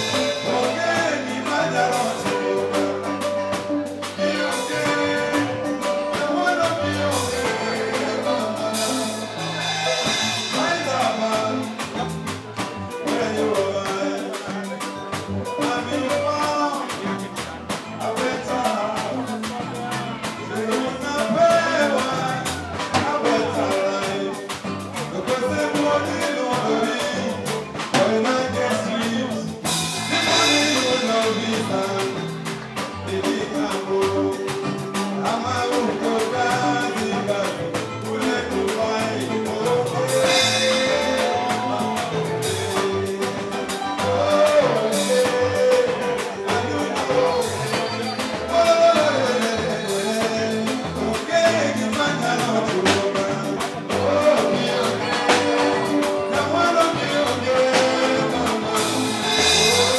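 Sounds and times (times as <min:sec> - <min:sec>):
drum kit beat: 0:00.0 - 0:59.9
person singing: 0:00.0 - 0:59.9.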